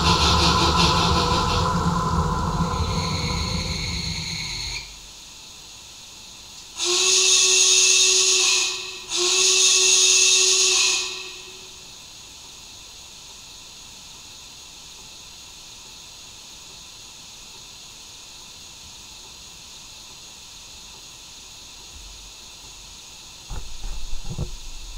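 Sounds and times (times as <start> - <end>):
steady steam hiss: 0.0 - 24.9.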